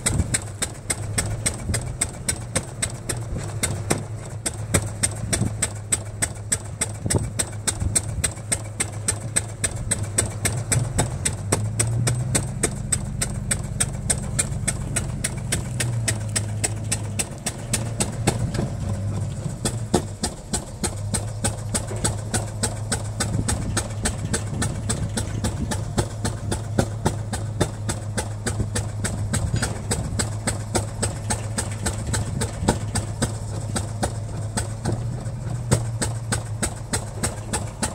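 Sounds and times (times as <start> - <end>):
single-cylinder engine firing knocks: 0.0 - 37.9.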